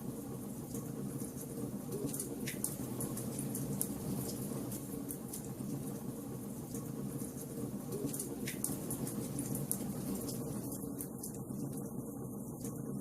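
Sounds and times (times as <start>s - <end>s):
wood fire crackling and popping: 0.7s - 6.0s, 6.6s - 11.9s.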